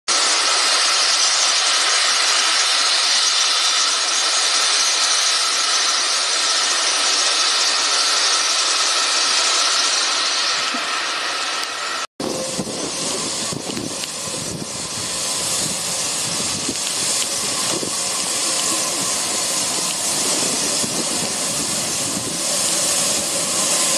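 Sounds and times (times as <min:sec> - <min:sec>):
steam hissing: 0:00.1 - 0:23.9.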